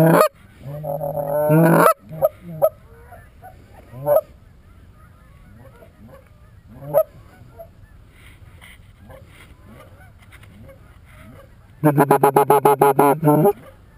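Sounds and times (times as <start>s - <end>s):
goose honking: 0.0s - 13.9s.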